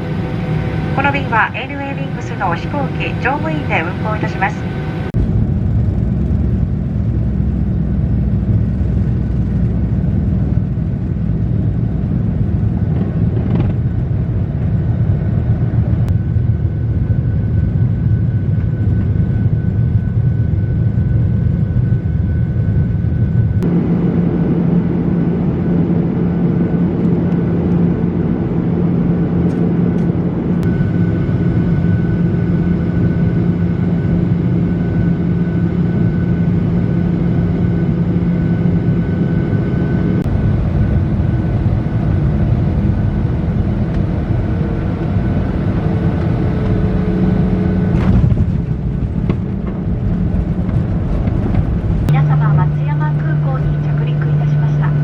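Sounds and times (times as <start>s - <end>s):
airliner engine rumble: 0.0s - 55.0s
jet engine high whine: 0.0s - 55.0s.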